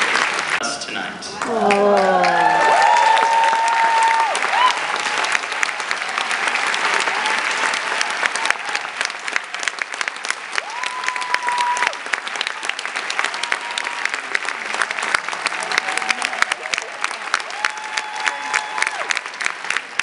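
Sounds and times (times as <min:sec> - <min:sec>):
large audience applauding: 0:00.0 - 0:20.0.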